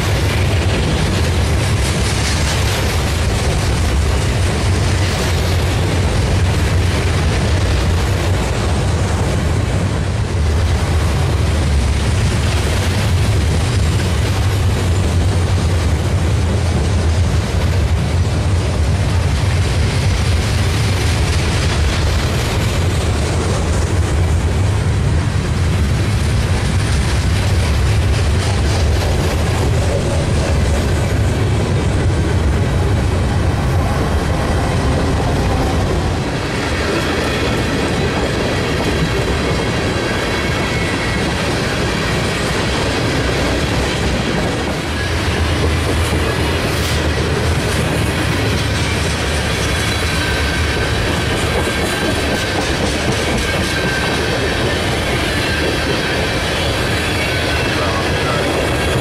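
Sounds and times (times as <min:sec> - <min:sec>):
diesel locomotive engine drone: 0:00.0 - 0:59.0
train wheels clattering on rails: 0:00.0 - 0:59.0.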